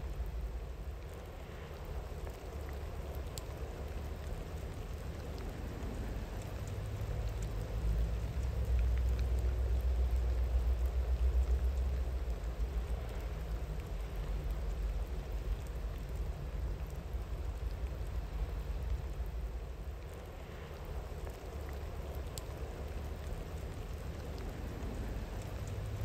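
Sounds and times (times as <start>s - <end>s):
raindrop ticks: 0.0s - 26.0s
steady rain falling: 0.0s - 26.0s.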